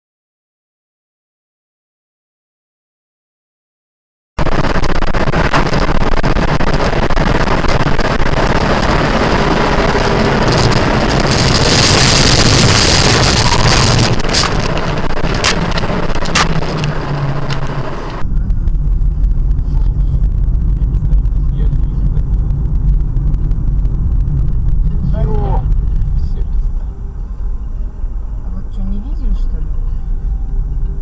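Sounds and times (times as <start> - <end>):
vehicle road and wind rush: 4.5 - 31.0.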